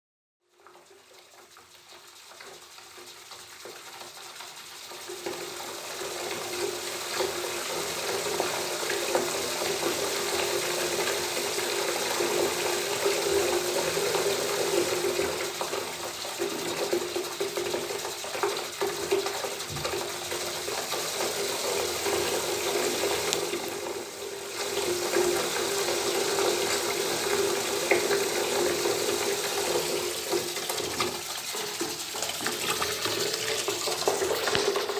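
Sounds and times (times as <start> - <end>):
water pouring into bathtub: 0.5 - 34.9.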